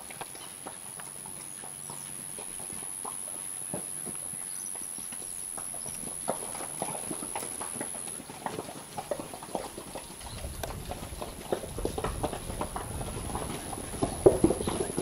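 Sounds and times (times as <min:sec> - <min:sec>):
hooves knocking on ground: 0:00.0 - 0:15.0.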